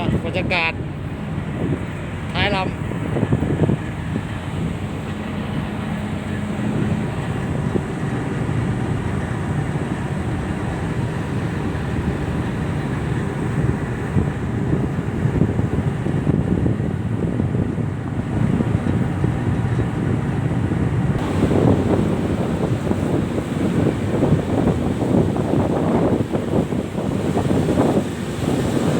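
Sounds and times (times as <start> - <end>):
boat engine rumble: 0.0 - 28.9
water rushing along hull: 0.0 - 28.9
wind buffeting microphone: 0.0 - 28.9.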